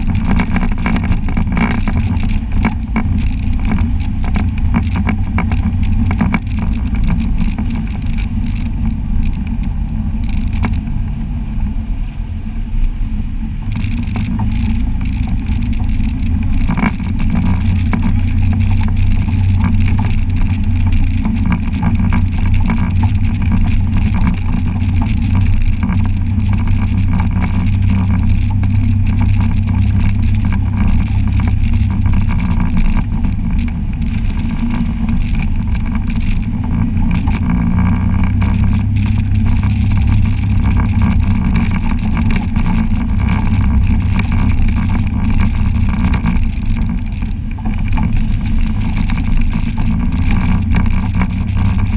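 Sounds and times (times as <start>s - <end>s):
chassis and rocks knocking: 0.0s - 10.9s, 13.7s - 51.9s
utility vehicle engine running: 0.0s - 51.9s.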